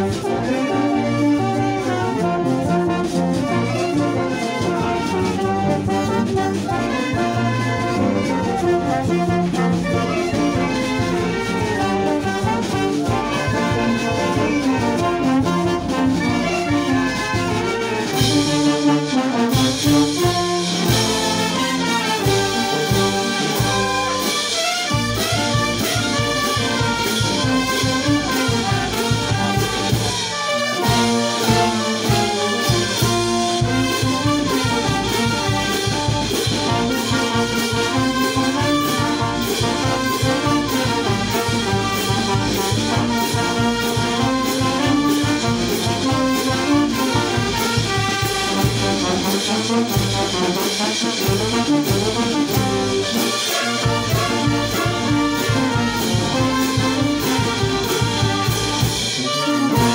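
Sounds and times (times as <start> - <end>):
trumpets and trombones: 0.0 - 59.9
drum beat: 2.8 - 59.9.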